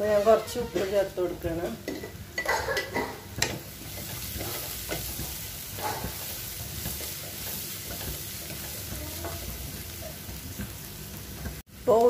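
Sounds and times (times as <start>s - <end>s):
wooden spatula scraping pan: 0.0s - 2.2s, 2.8s - 11.6s
onion sizzling in oil: 0.0s - 12.0s.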